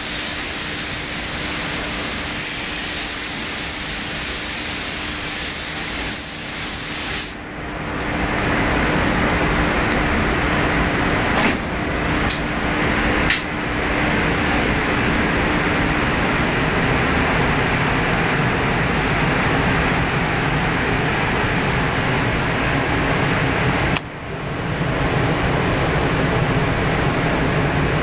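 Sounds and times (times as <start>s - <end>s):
ventilation air rushing: 0.0s - 28.0s.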